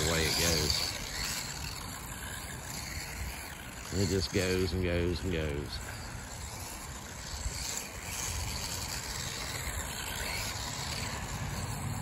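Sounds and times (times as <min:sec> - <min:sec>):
rc buggy driving over grass: 0:00.0 - 0:12.0.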